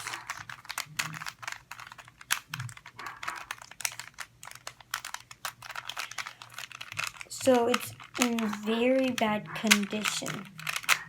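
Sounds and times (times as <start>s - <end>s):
puzzle cube clicking as turned: 0.0s - 11.0s.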